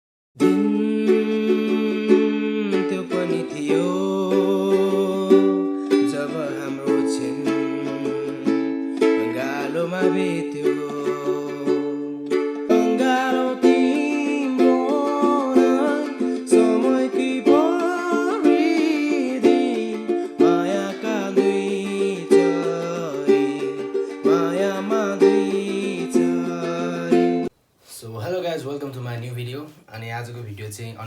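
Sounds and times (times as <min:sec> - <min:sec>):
music with sliding melody: 0:00.4 - 0:27.5.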